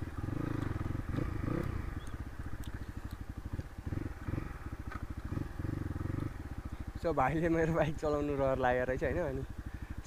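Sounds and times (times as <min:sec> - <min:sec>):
dirt bike engine chugging: 0:00.0 - 0:10.0.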